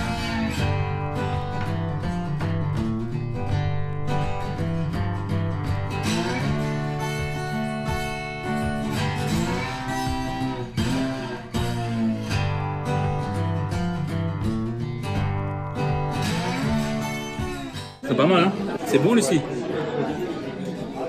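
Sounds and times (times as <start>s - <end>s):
low bass notes: 0.0s - 18.0s
guitar music: 0.0s - 21.0s.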